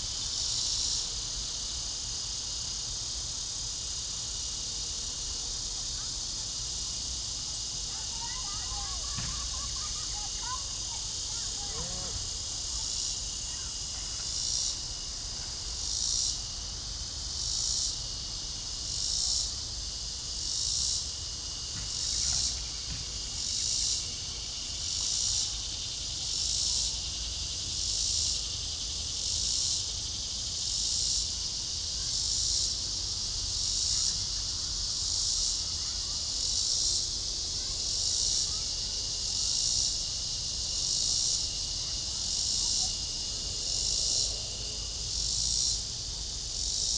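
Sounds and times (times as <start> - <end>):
insects buzzing in pulses: 0.0 - 46.9.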